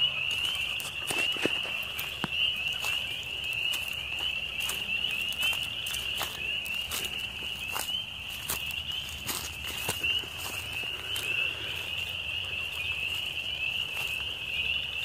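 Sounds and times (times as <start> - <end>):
frogs chorus: 0.0 - 15.0.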